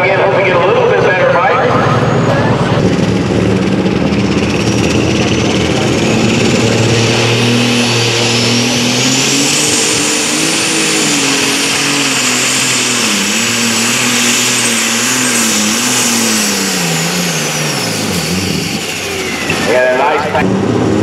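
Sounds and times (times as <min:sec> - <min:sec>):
engine at full throttle: 0:00.0 - 0:21.0
high whine: 0:00.0 - 0:21.0.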